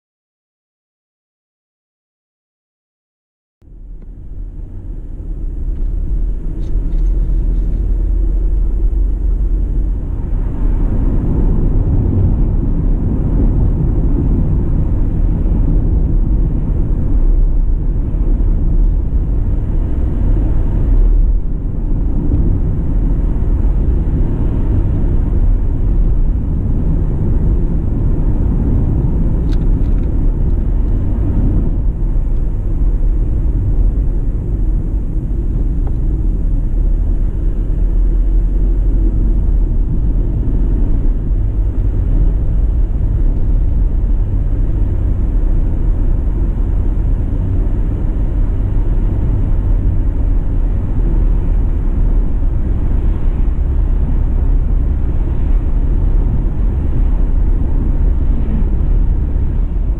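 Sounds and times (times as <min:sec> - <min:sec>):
car engine and tyre rumble: 0:03.6 - 0:59.9.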